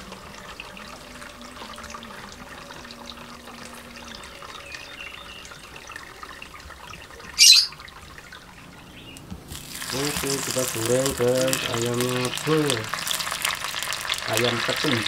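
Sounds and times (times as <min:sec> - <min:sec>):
liquid dripping and trickling: 0:00.0 - 0:15.0.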